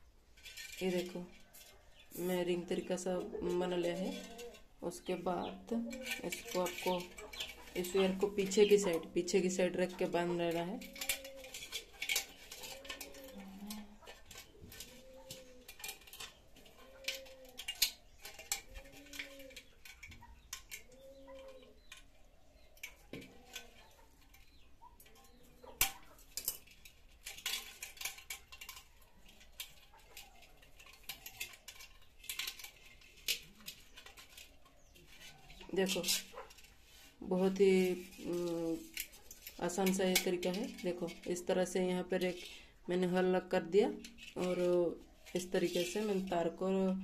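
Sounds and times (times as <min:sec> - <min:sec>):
wire scraping against clay pot: 0:00.0 - 0:47.0.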